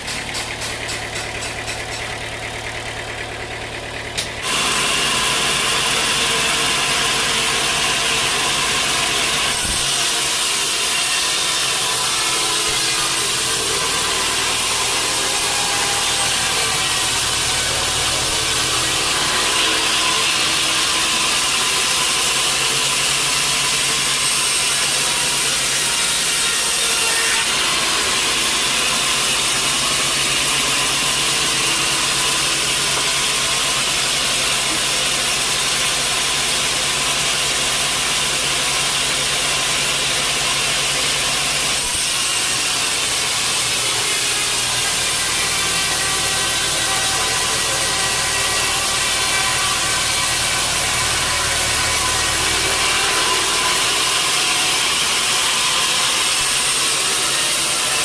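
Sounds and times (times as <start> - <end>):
saw cutting log: 0.0 - 58.0
sawmill machinery running: 0.0 - 58.0.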